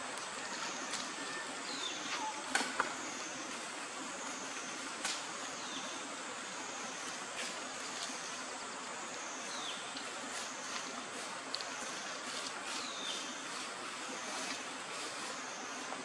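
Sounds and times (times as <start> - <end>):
high insect hum: 0.0 - 16.0.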